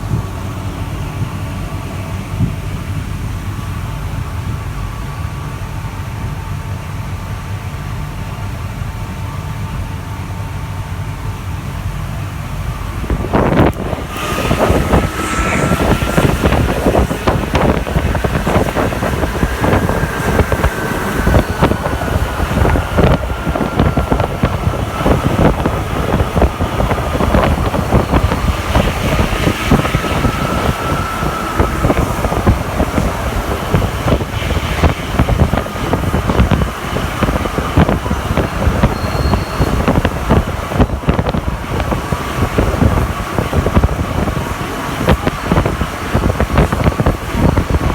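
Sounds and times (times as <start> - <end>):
train motor whine: 0.0 - 47.9
train running rumble: 0.0 - 47.9.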